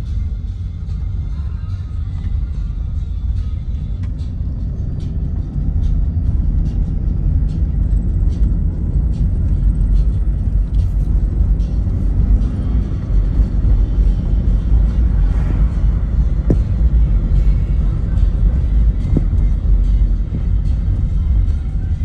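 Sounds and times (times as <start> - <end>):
car tyres rumbling on road: 0.0 - 22.0.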